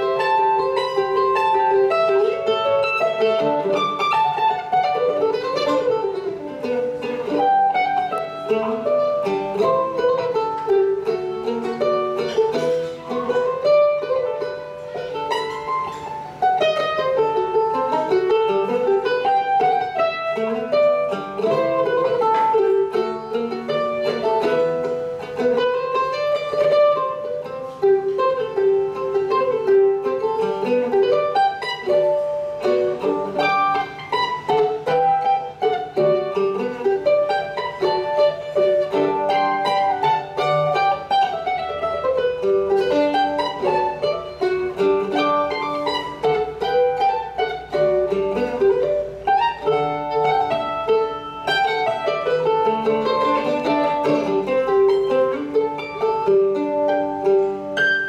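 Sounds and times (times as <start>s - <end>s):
mandolin melody: 0.0s - 58.0s.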